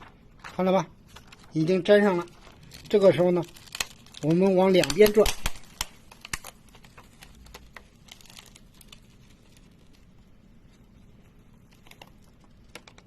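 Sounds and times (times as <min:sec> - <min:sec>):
adhesive tape crinkling: 0:00.6 - 0:13.0.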